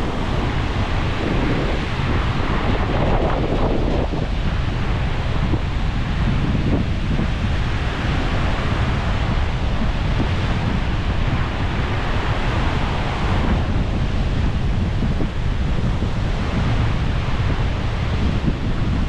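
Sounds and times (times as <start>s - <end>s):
sea surf: 0.0s - 19.0s
wind on microphone: 0.0s - 19.0s.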